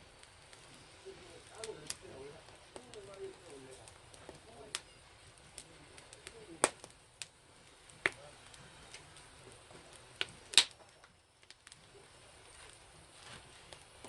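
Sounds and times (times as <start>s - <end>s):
fire pops: 0.0s - 14.0s
wood fire crackling: 0.0s - 14.0s.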